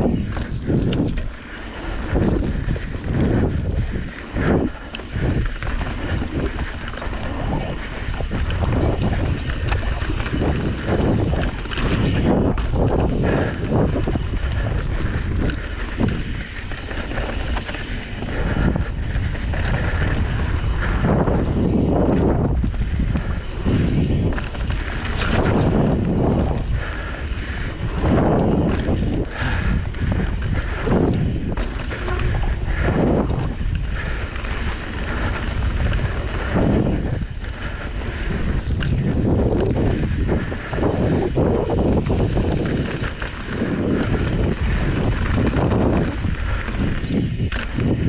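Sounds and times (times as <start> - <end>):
knocks and rattles over rough ground: 0.0 - 48.0
wind buffeting microphone: 0.0 - 48.0.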